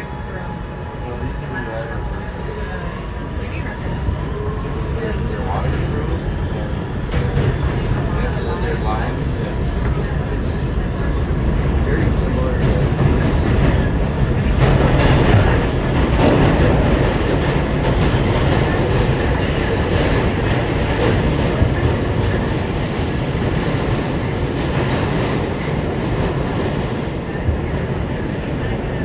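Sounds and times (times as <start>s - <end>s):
subway train wheels rumbling: 0.0s - 29.0s.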